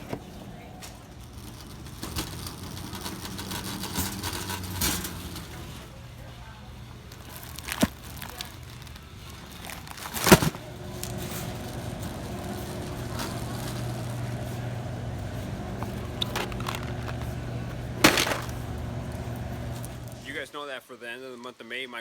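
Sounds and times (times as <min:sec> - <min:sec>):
vehicle running with low hum: 0:00.0 - 0:20.4.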